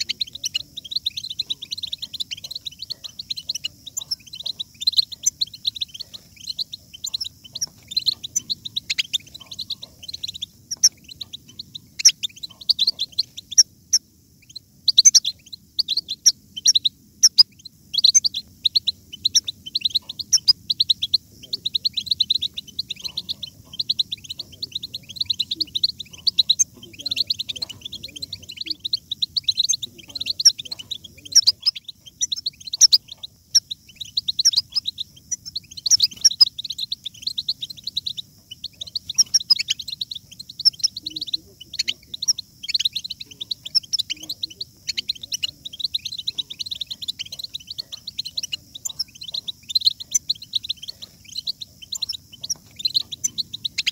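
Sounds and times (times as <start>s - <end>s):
goldfinch twittering song: 0.0s - 53.9s.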